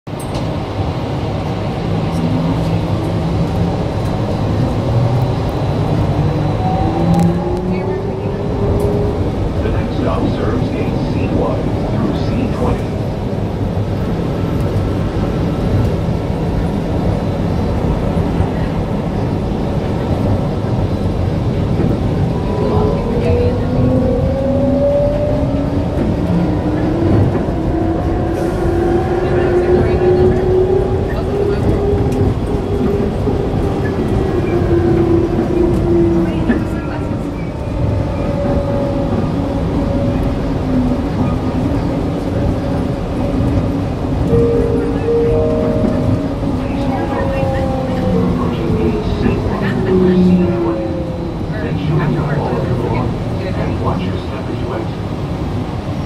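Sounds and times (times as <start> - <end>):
train running noise: 0.1 - 56.0.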